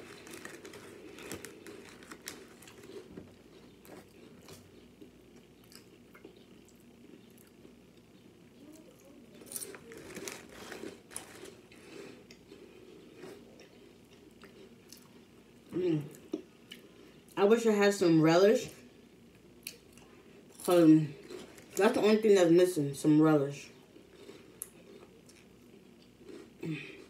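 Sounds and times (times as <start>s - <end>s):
person chewing crunchy crackers: 0.0s - 8.1s, 8.7s - 17.4s, 19.6s - 22.0s, 23.8s - 27.0s.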